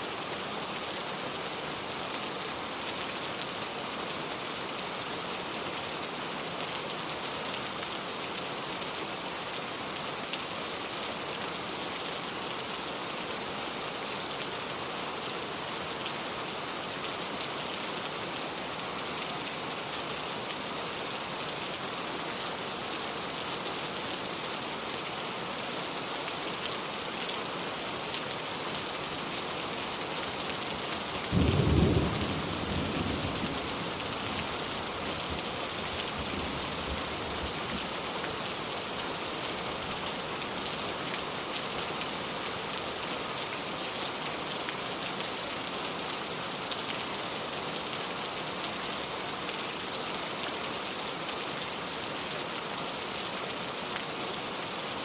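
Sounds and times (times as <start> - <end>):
heavy rain pouring: 0.1 - 55.0.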